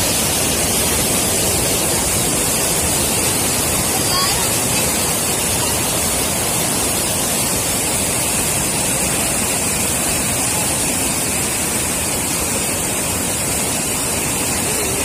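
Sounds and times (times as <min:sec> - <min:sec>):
river water pouring over rocks: 0:00.0 - 0:15.0.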